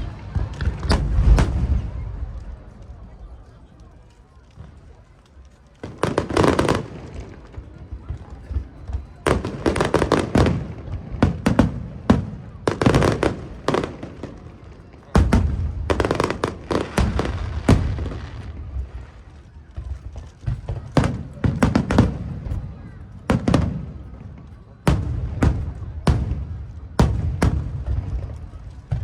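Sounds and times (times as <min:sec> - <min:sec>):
fireworks booming and crackling: 0:00.0 - 0:29.0.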